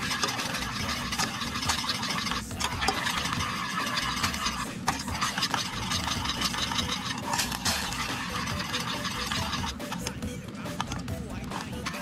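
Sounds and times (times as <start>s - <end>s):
metal spoon stirring sauce: 0.0s - 12.0s
spoon scraping pan: 0.0s - 12.0s.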